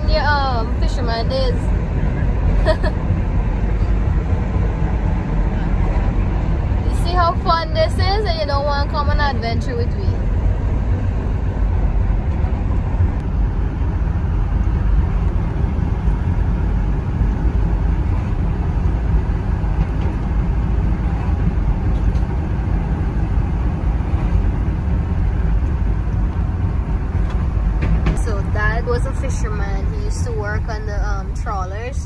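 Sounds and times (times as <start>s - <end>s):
road and engine rumble in car: 0.0s - 32.0s.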